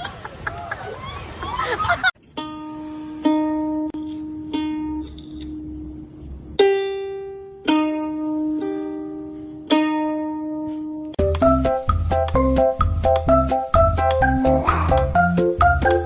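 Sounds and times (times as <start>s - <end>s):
slow plucked notes: 2.2s - 16.0s.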